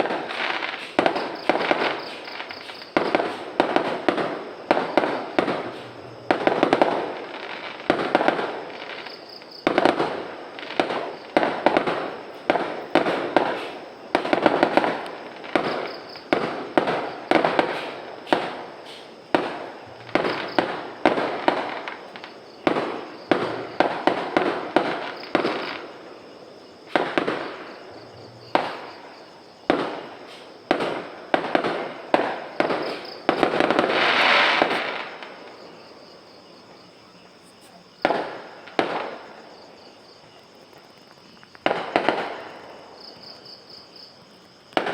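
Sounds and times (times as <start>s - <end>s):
fireworks exploding and crackling: 0.0s - 44.9s.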